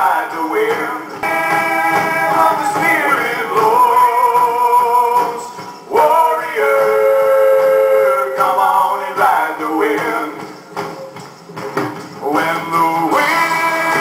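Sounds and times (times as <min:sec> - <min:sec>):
person singing long notes: 0:00.0 - 0:10.2, 0:12.4 - 0:14.0
instrumental accompaniment: 0:00.2 - 0:14.0.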